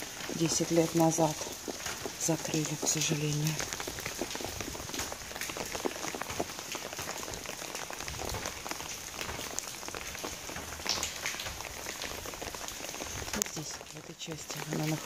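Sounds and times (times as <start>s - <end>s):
heavy rain on stone pavement: 0.0s - 15.0s
raindrops ticking sharply: 0.0s - 15.0s.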